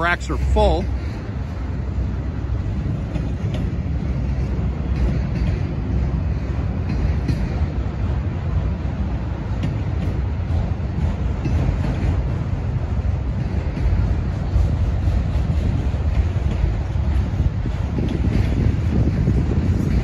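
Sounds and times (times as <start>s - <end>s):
freight cars rumbling on rails: 0.0s - 20.0s.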